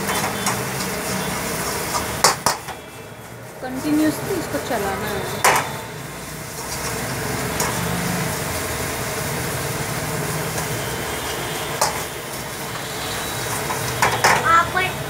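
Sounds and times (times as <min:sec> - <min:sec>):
noodles sizzling in a wok: 0:00.0 - 0:15.0.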